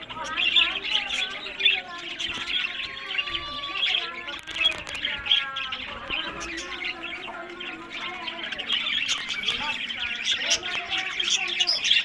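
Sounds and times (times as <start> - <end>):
budgerigars chirping and warbling: 0.0 - 12.0.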